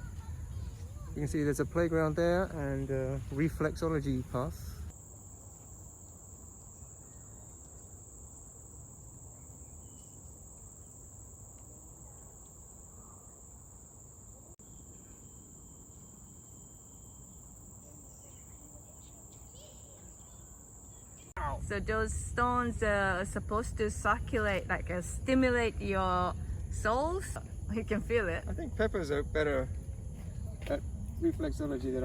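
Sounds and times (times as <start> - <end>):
low outdoor background noise: 0.0 - 32.0
insects high-pitched drone: 1.2 - 32.0.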